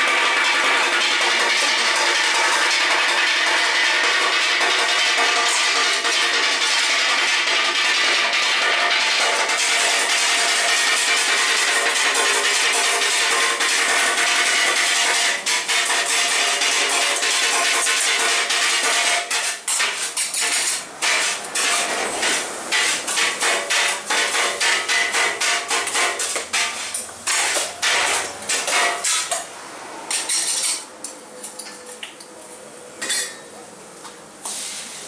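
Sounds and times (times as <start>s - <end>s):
metal pans and spatula clanking: 0.0s - 29.5s, 30.1s - 31.9s, 33.0s - 33.6s.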